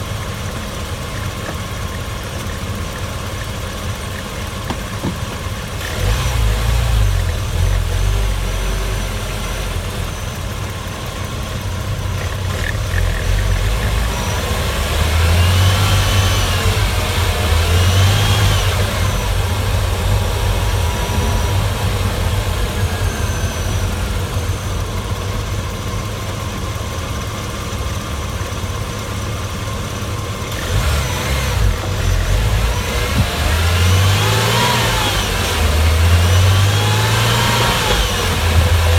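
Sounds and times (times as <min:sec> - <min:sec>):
car engine revving: 0:04.2 - 0:27.0, 0:29.8 - 0:38.9.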